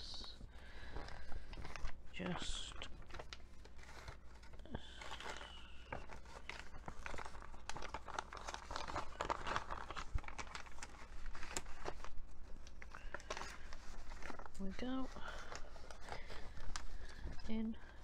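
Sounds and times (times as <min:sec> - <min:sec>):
plastic bag and paper crinkling: 0:00.0 - 0:18.0.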